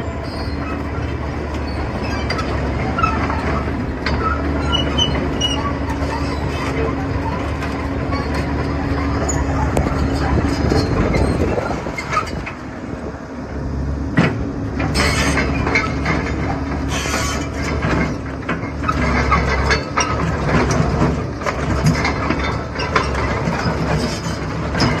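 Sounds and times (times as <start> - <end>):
metallic clanks and creaks of tracks: 0.0 - 13.1, 14.1 - 25.0
excavator diesel engine running: 0.0 - 25.0.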